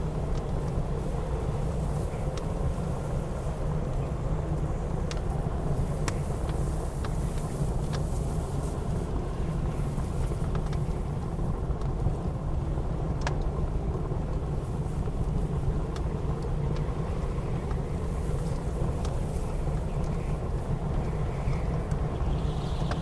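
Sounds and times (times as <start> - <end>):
blizzard wind: 0.0 - 23.0.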